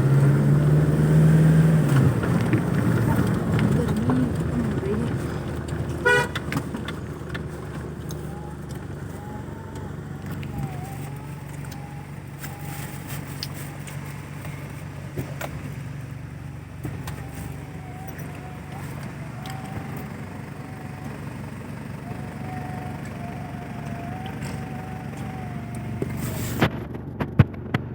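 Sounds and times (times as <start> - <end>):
diesel engine droning: 0.0 - 27.9.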